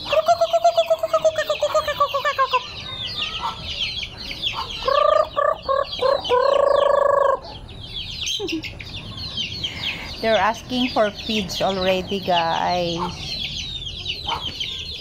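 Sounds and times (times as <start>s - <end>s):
hen clucking: 0.0s - 14.8s
chicks peeping: 0.0s - 15.0s.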